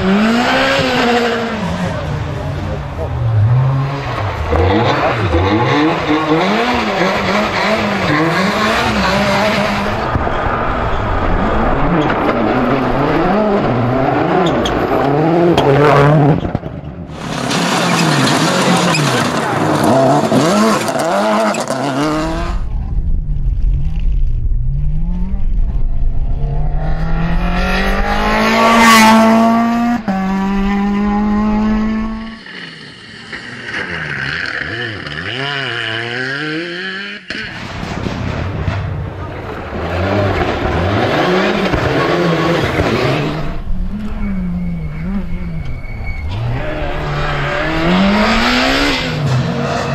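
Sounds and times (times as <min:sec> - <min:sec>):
rally car engine revving: 0:00.0 - 0:37.6, 0:38.8 - 0:49.9.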